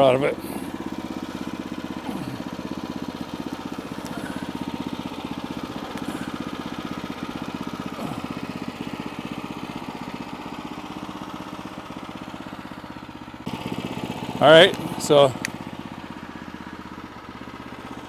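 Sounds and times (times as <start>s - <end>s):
engine puttering: 0.0s - 18.0s.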